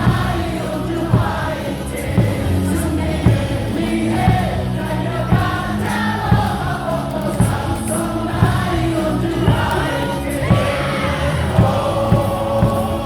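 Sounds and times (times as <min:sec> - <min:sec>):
crowd singing in unison: 0:00.0 - 0:13.0
heavy beat: 0:00.0 - 0:13.0
loud amplified music: 0:00.0 - 0:13.0.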